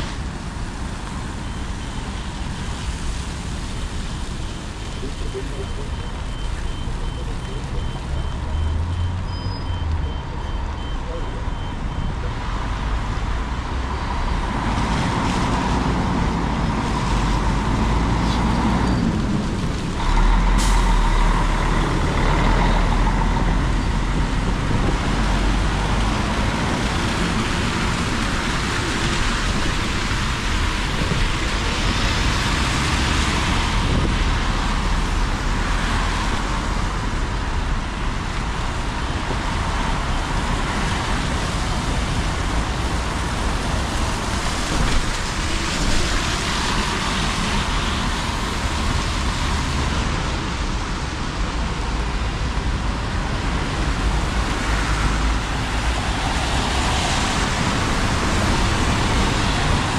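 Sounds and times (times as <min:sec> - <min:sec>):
bus engine rumble: 0:00.0 - 0:59.9
tyres hissing on wet road: 0:00.0 - 0:59.9.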